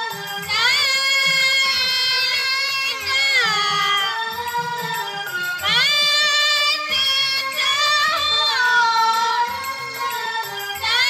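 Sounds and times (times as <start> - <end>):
keyboard accompaniment: 0.0 - 11.0
person singing ornamented melody: 0.0 - 11.0.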